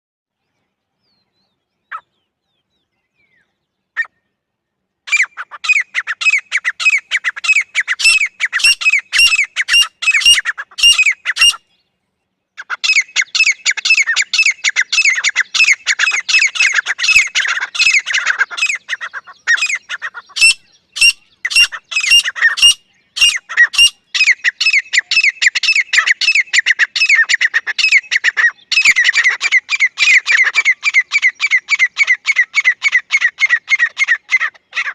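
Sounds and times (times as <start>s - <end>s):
francolin calling: 5.1s - 11.7s, 12.6s - 34.9s.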